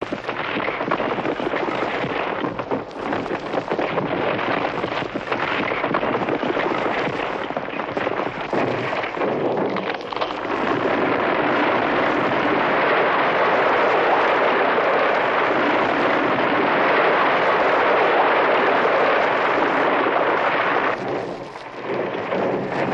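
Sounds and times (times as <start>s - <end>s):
avalanche rushing: 0.0s - 22.9s.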